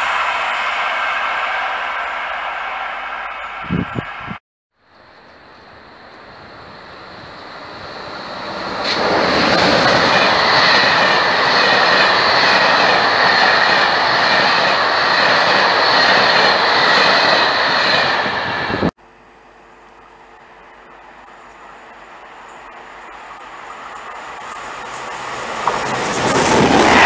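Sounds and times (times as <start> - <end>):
train wheels rushing on rail: 0.0 - 4.4, 5.7 - 19.0, 19.6 - 27.0.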